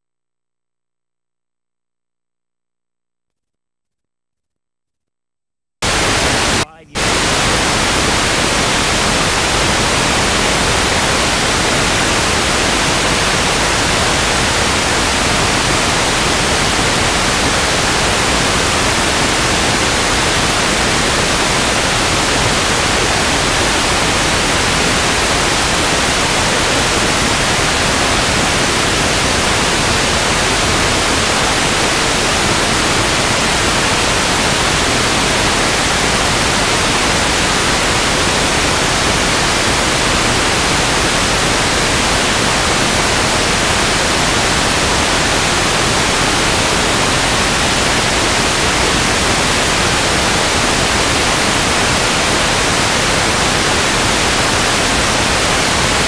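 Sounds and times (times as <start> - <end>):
loud static hiss: 5.8 - 56.0.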